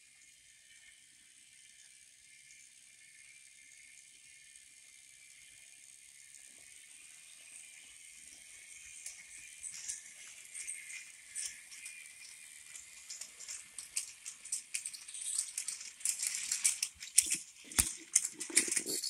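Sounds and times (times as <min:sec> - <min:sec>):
toy train clicking and rattling: 0:00.1 - 0:19.0.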